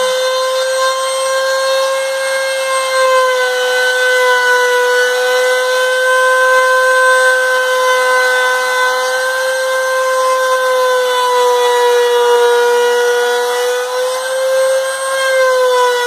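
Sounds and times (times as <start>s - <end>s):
router whining while cutting wood: 0.0s - 16.0s.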